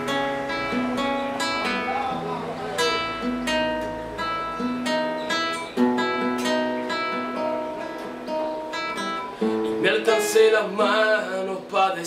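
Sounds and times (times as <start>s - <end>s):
fingerstyle classical guitar: 0.0s - 12.0s.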